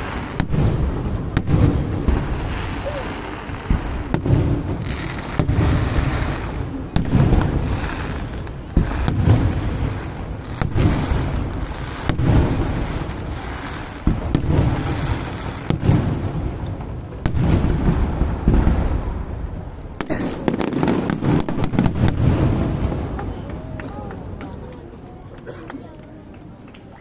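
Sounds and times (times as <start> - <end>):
firework shells booming: 0.0 - 24.4.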